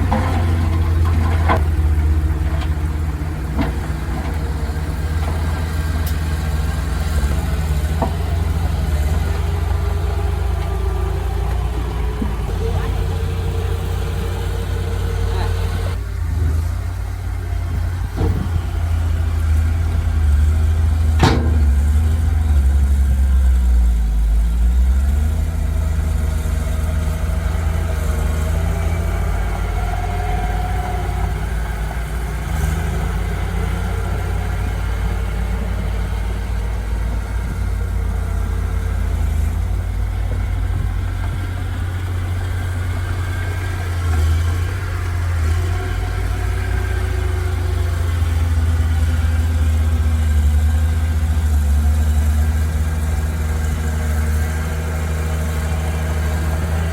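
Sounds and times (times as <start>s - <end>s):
heavy machinery diesel engine rumble: 0.0s - 56.9s.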